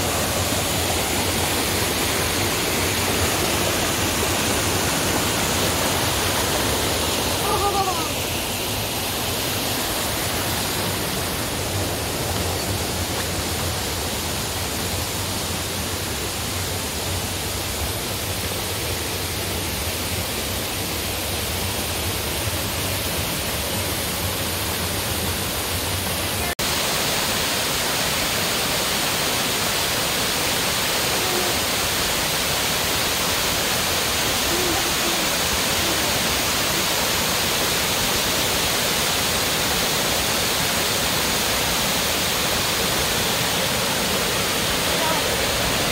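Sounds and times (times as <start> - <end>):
waterfall pouring: 0.0 - 16.7, 25.6 - 45.9
creek rushing over boulders: 0.0 - 45.9.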